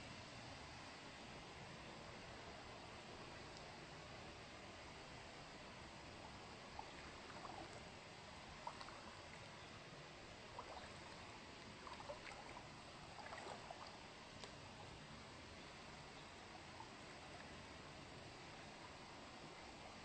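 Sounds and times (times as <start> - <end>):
steady hiss: 0.0 - 20.0
water gurgling: 1.6 - 20.0
water trickling: 2.9 - 20.0.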